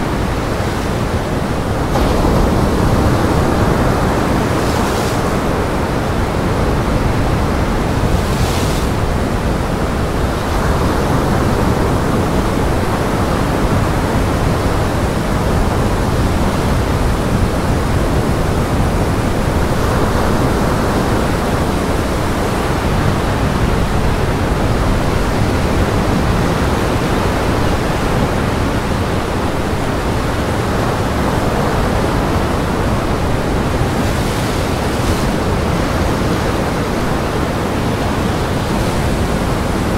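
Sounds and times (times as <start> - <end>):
gale wind: 0.0 - 39.9
waves breaking on rocks: 0.1 - 39.9.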